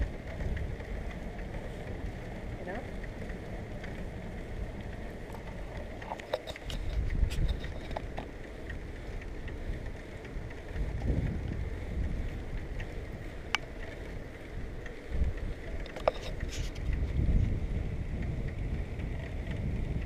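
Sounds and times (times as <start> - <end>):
bicycle clicks and rattles: 0.0 - 20.0
tyre and road noise: 0.0 - 20.0
wind rumbling on microphone: 0.0 - 20.0.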